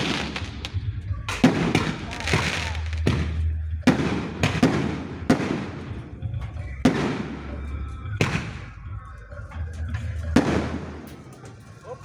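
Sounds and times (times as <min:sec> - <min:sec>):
fireworks bangs with echo: 0:00.0 - 0:09.2, 0:09.9 - 0:11.5.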